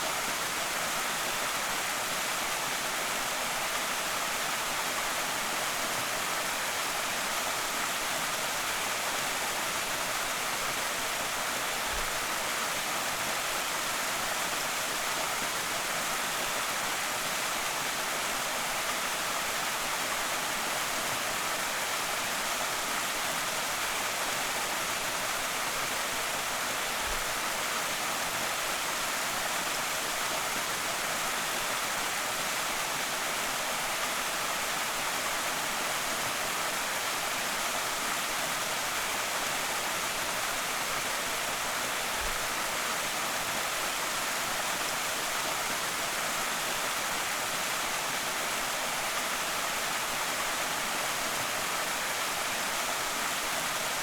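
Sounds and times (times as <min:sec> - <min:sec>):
waterfall pouring and splashing: 0:00.0 - 0:54.0.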